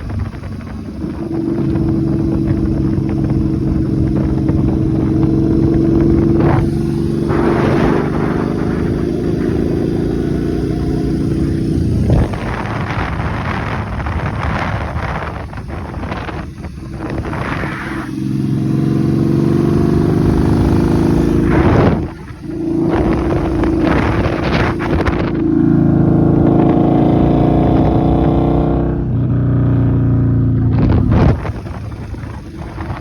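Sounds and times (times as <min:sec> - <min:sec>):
motorcycle engine under load: 0:00.0 - 0:33.0.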